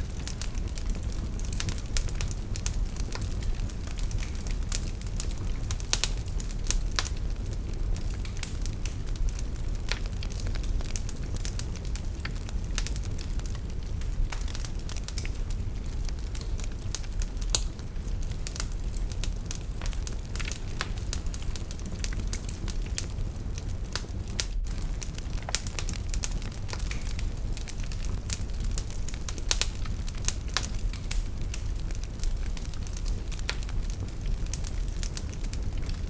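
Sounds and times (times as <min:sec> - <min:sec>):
fire crackling and popping: 0:00.0 - 0:36.0
fire rumbling in a fireplace: 0:00.0 - 0:36.0.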